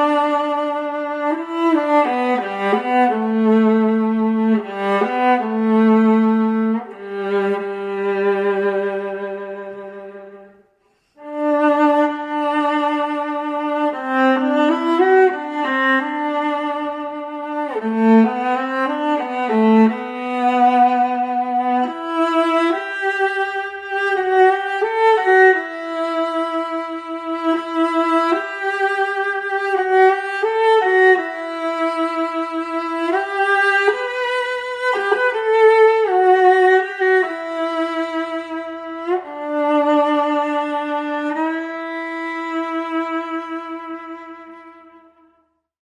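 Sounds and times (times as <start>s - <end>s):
solo viola melody: 0.0s - 45.8s.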